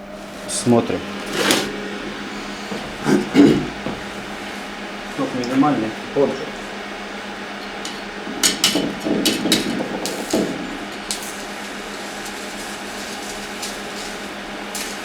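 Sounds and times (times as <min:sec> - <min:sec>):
welder steady hum: 0:00.0 - 0:15.0
welding arc crackling: 0:00.0 - 0:15.0.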